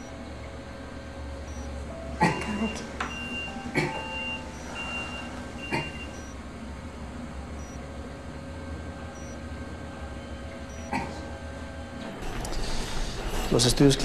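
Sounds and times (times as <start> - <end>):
patient monitor beeping: 0.0 - 6.7, 7.4 - 13.7
low steady hum: 0.0 - 14.0.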